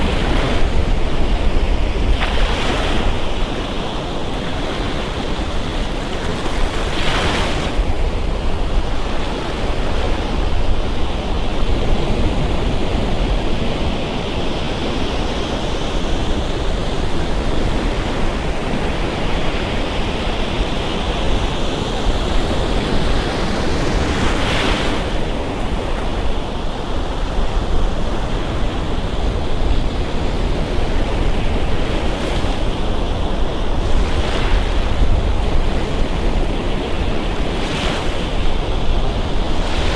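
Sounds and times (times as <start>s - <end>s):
low wind rumble on microphone: 0.0s - 39.9s
waves breaking on beach: 0.0s - 39.9s.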